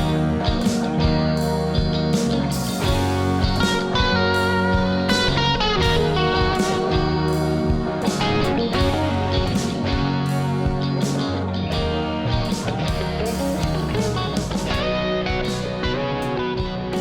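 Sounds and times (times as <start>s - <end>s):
rock band music: 0.0s - 17.0s.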